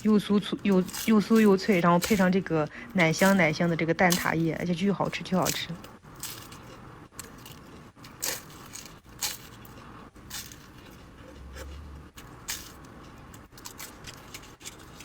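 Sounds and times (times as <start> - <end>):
crunchy pastry chewing: 0.0 - 15.0.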